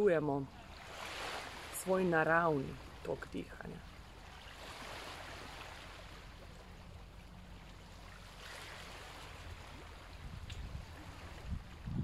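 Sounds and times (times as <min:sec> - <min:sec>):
faint rush of water: 0:00.0 - 0:12.0.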